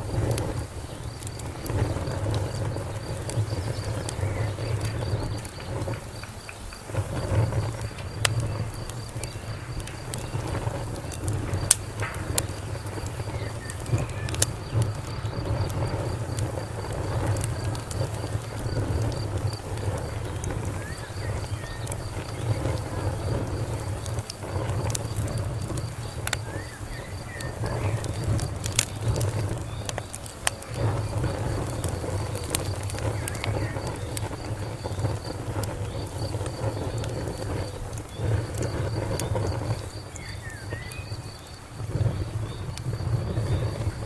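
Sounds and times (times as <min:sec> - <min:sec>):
faint insect chirping: 0:00.0 - 0:44.0
low rumble of burning: 0:00.0 - 0:44.0
wood fire crackling: 0:00.0 - 0:44.0.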